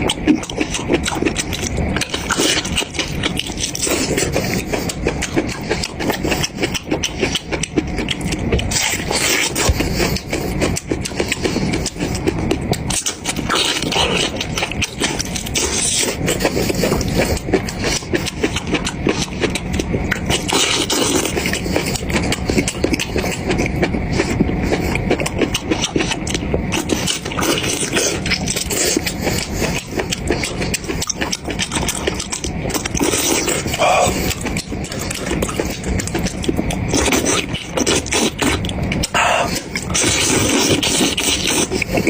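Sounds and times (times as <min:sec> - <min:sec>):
wet chewing and crunching: 0:00.0 - 0:42.0.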